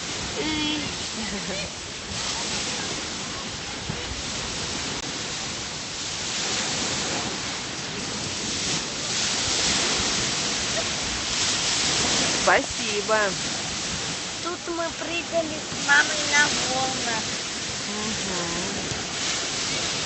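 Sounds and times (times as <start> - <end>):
sea surf on a beach: 0.0 - 20.0.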